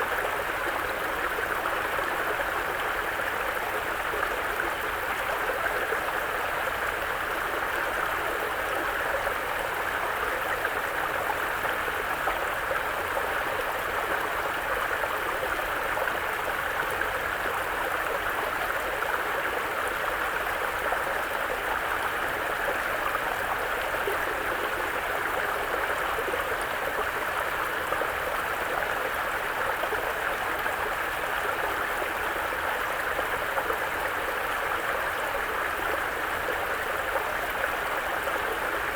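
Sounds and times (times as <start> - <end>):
brook water running: 0.0 - 38.9.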